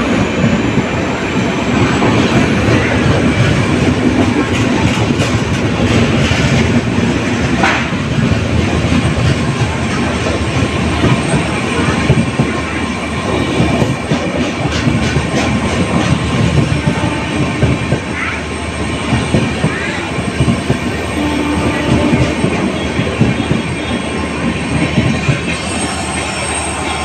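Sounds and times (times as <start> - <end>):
train wheels clattering over rails: 0.0 - 27.0.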